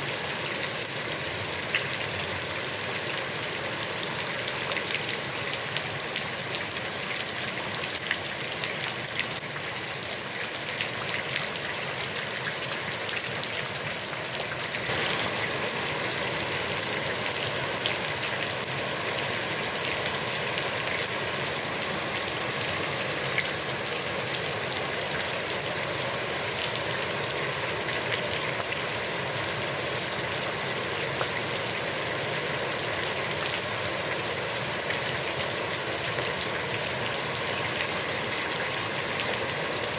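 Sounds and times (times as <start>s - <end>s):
heavy rain on pond: 0.0s - 39.9s.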